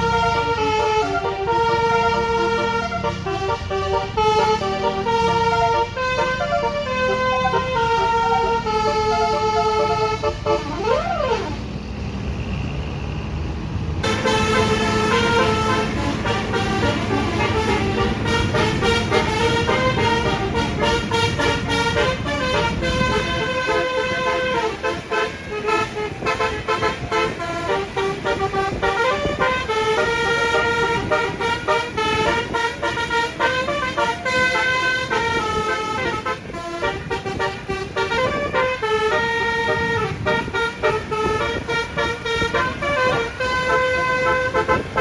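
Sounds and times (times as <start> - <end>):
bus multi-tone horn playing tune: 0.0 - 11.9, 14.0 - 45.0
engine and road rumble: 0.0 - 45.0.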